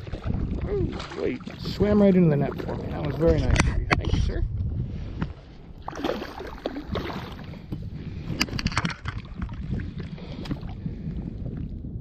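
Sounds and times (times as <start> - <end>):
water splashing and sloshing: 0.0 - 12.0
wind rumbling on microphone: 0.0 - 12.0.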